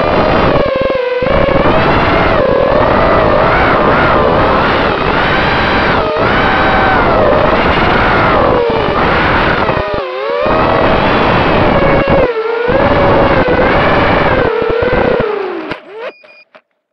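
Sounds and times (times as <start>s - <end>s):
rushing wind: 0.0s - 15.2s
drone motors and propellers whining: 0.0s - 16.6s.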